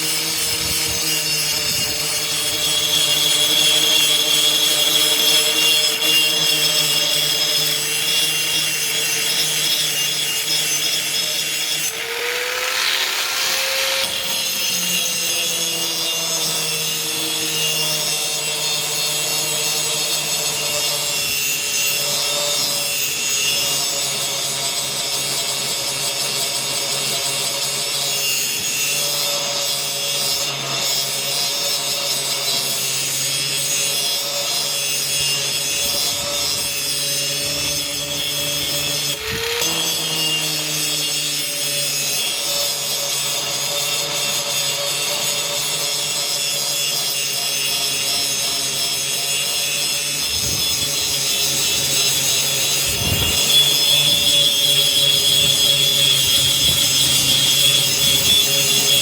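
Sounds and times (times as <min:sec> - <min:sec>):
grinder grinding steel: 0:00.0 - 0:59.0.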